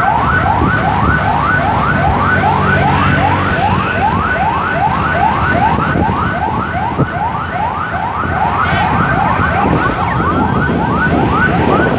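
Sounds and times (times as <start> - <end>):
ambulance siren yelping: 0.0 - 11.9
road rumble: 0.0 - 11.9.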